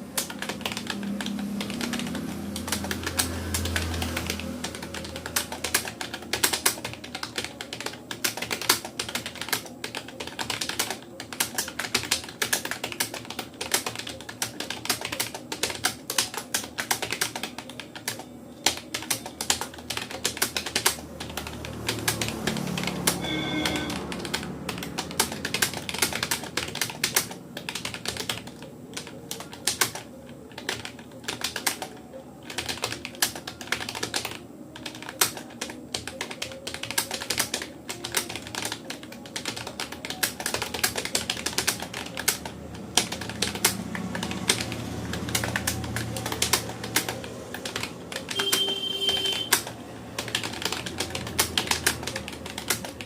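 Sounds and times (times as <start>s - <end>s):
fast typing on keyboard: 0.0s - 53.0s.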